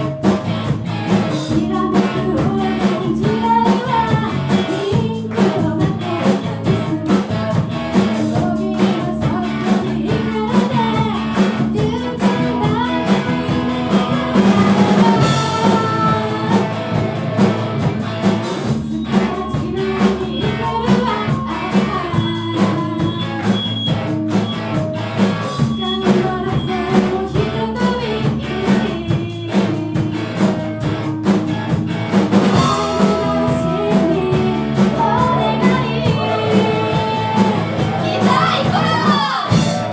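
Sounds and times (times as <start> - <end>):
bass guitar: 0.0 - 39.9
drum kit beat: 0.0 - 39.9
guitar: 0.0 - 39.9
person singing: 1.1 - 17.9, 18.7 - 23.7, 25.2 - 30.8, 32.5 - 39.9.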